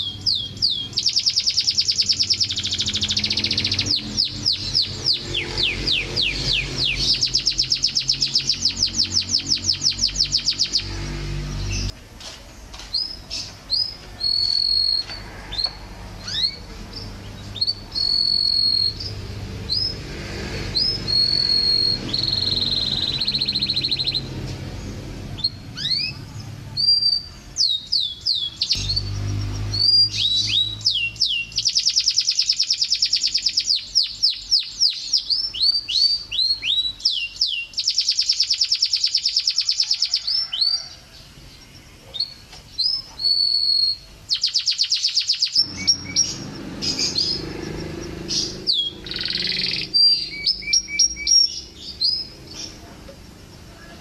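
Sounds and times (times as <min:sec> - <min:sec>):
canary singing: 0:00.0 - 0:12.0, 0:12.9 - 0:54.0.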